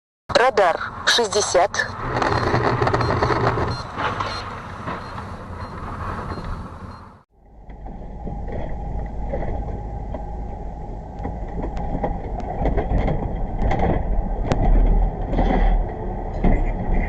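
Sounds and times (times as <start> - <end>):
engine and tyre rumble: 0.3 - 17.0.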